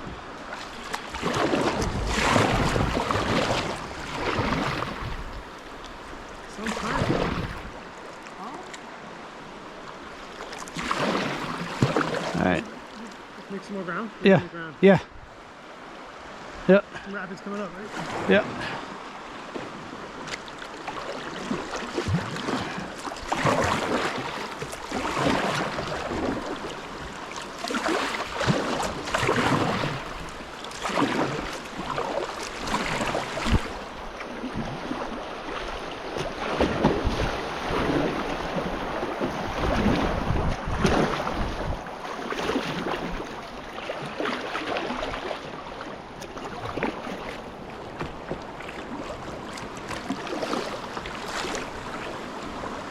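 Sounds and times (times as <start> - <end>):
paddle strokes splashing: 0.0 - 14.2, 14.9 - 52.9
rushing river water: 0.0 - 52.9.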